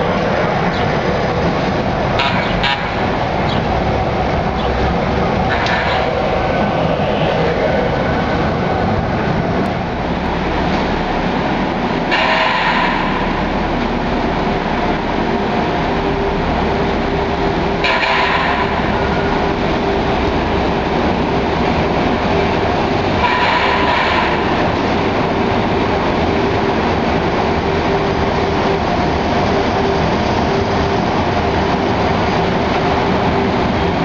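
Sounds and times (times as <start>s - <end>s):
constant hum: 0.0s - 34.0s
light-rail cars rolling: 0.0s - 34.0s.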